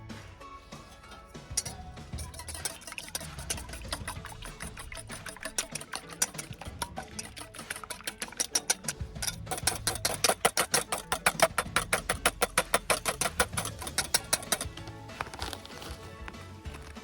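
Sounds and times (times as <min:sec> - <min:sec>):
background music: 0:00.0 - 0:17.0
whisk beating in a bowl: 0:00.8 - 0:16.1.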